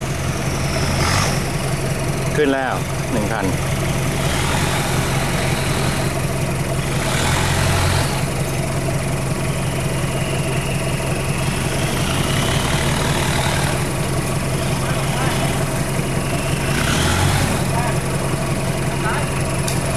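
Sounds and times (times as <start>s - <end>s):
vehicle engine idling: 0.0s - 19.9s.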